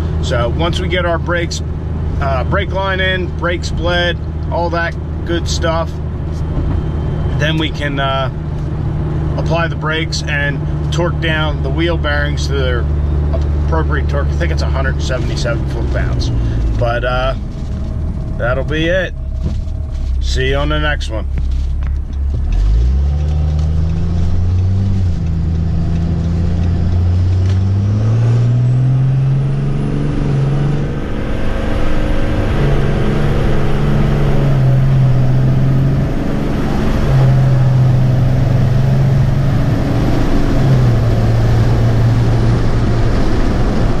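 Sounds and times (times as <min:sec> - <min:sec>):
car engine accelerating: 0:00.0 - 0:44.0
road noise inside cabin: 0:00.0 - 0:44.0.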